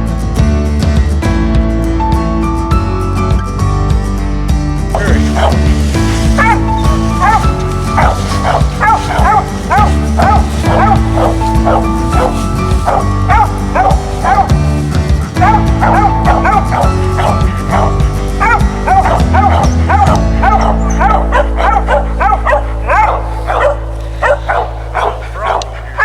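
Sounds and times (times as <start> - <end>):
background music low notes: 0.0 - 26.0
dogs barking and yipping: 5.0 - 26.0.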